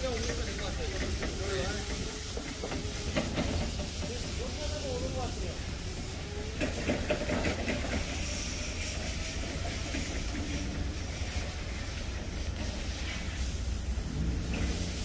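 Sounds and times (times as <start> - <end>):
fire crackles: 0.0 - 15.0
wood stove fire roaring: 0.0 - 15.0.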